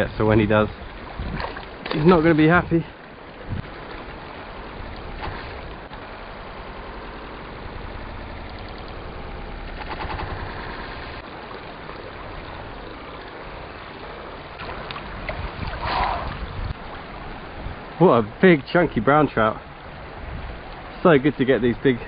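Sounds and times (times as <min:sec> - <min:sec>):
river water running: 0:00.0 - 0:22.0.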